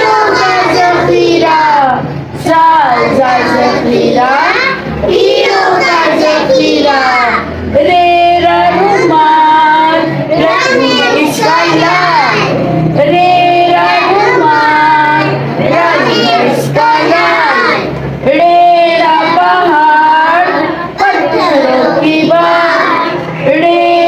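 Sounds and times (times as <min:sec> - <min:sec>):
child singing: 0:00.0 - 0:24.0.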